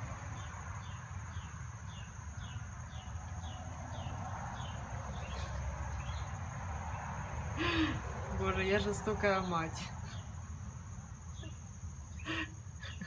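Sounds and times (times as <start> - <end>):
insects high-pitched drone: 0.0 - 13.0.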